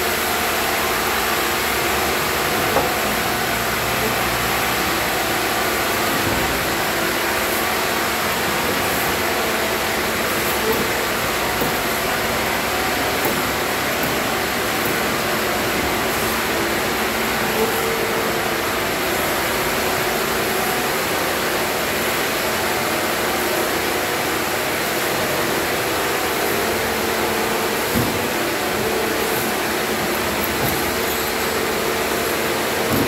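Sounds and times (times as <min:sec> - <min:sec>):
sawmill machinery droning: 0:00.0 - 0:33.0.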